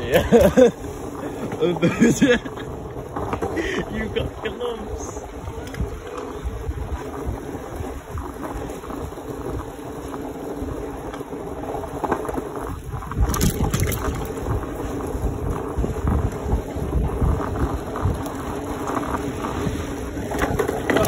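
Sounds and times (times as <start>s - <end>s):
skateboard wheels rolling on asphalt: 0.0s - 21.0s
wind buffeting microphone: 0.0s - 21.0s.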